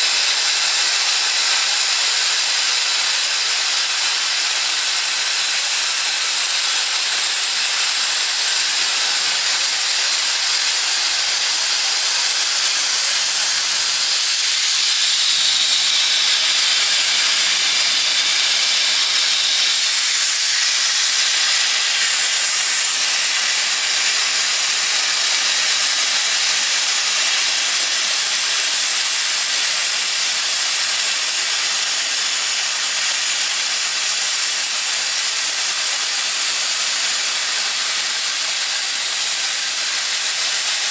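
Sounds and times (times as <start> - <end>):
plasma torch hissing: 0.0 - 40.9.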